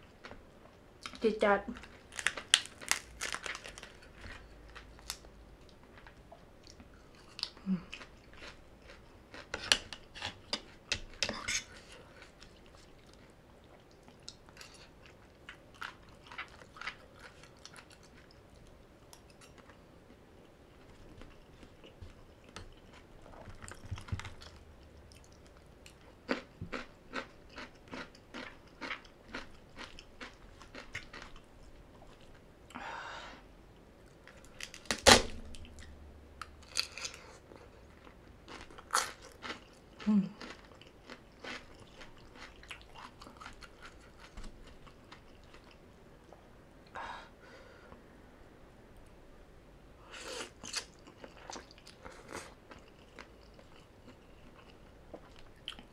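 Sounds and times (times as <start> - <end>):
chewing crunchy salad: 0.1 - 32.4, 35.5 - 46.4, 50.2 - 55.9.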